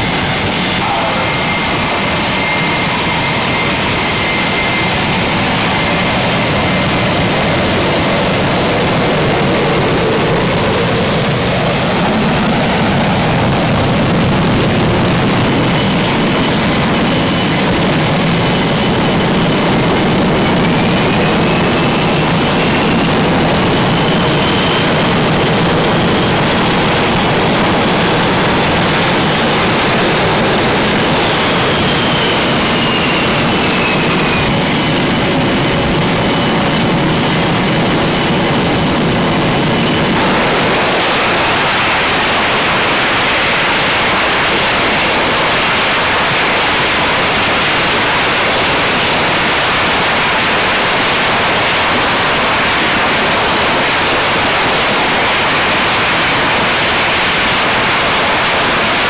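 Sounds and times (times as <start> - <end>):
high turbine whine: 0.0 - 59.0
jet engines rushing: 0.0 - 59.0.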